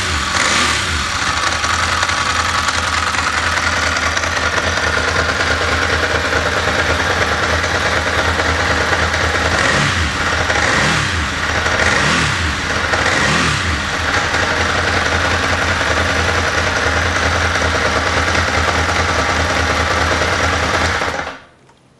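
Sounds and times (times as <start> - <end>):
motorcycle engine idling: 0.0 - 21.4
motorcycle engine revving: 0.0 - 21.4.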